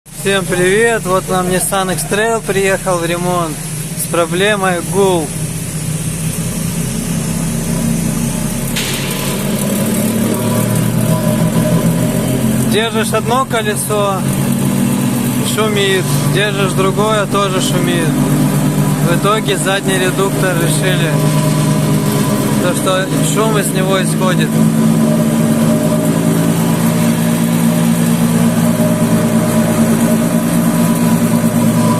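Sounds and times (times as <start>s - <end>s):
car drivetrain humming: 0.1s - 31.9s.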